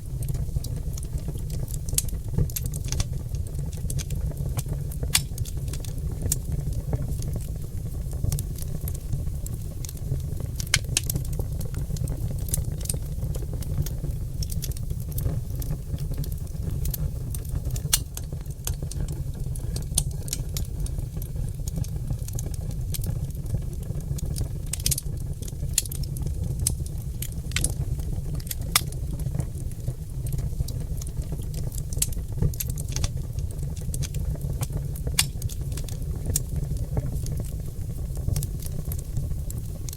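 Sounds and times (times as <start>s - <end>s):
logs crackling in a fireplace: 0.0s - 39.9s.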